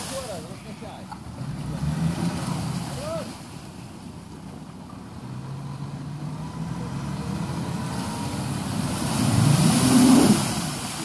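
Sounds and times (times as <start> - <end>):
car engine revving under load: 1.1 - 11.0.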